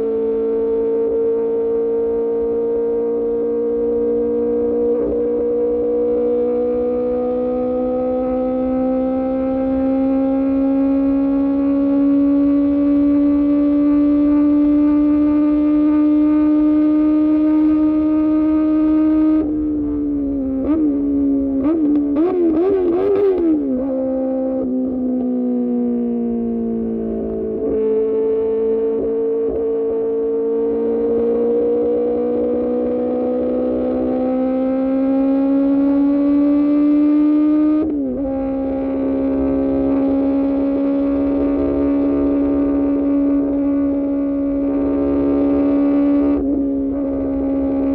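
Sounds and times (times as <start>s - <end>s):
motorbike engine revving high: 3.3s - 24.7s, 26.8s - 47.9s.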